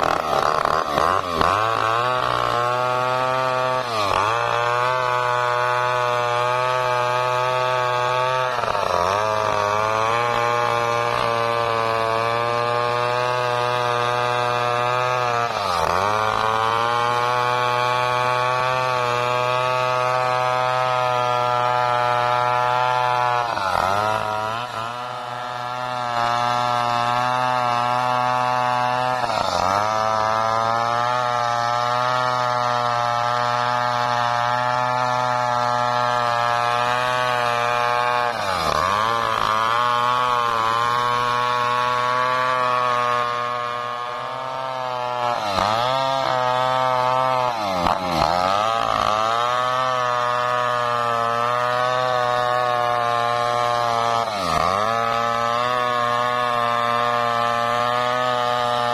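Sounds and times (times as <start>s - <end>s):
chainsaw cutting through log: 0.0s - 58.9s.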